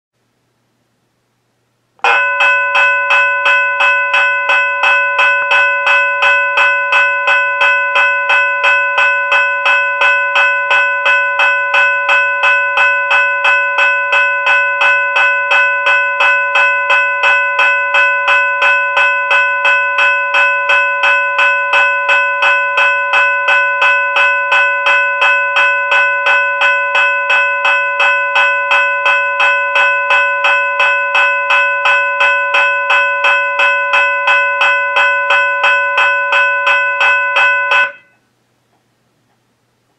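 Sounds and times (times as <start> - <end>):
electronic bell ringing: 2.0 - 38.2.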